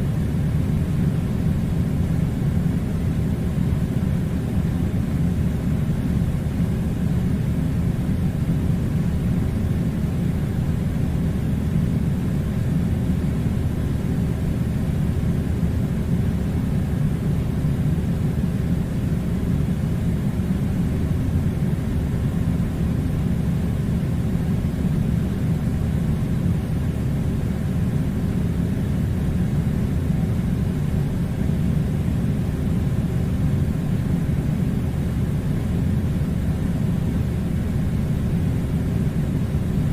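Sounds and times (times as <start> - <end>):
air conditioner rumbling: 0.0 - 39.9.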